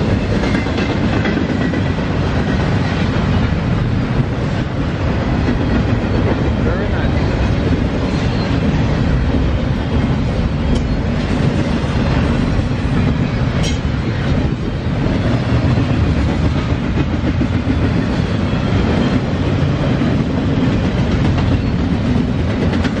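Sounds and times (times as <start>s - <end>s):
freight train wheels on rail: 0.0s - 23.0s.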